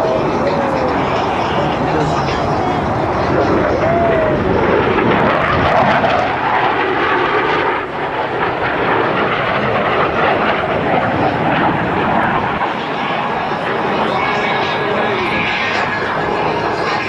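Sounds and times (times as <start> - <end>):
jet planes flying past: 0.0 - 17.0.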